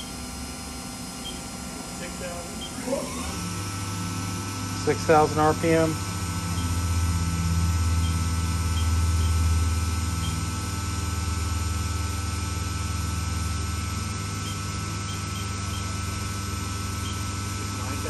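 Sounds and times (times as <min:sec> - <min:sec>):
machine spindle humming: 0:00.0 - 0:18.0.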